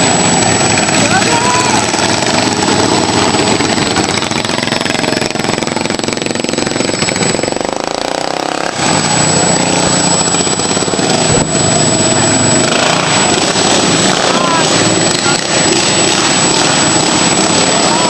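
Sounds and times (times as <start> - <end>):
racing lawn mower engines: 0.0 - 18.0.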